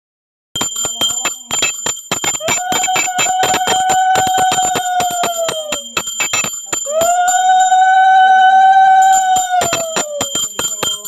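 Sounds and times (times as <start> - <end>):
handbell ringing fast: 0.6 - 11.0.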